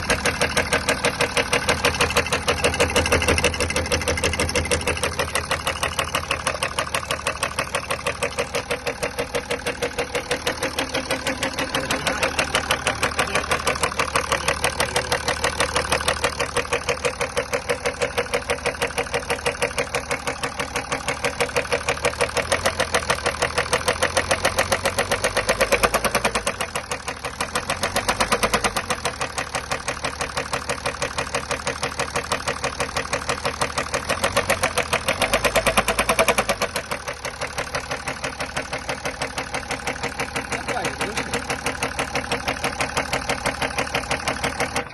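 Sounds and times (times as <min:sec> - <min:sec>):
diesel engine knocking rhythmically: 0:00.0 - 0:44.9.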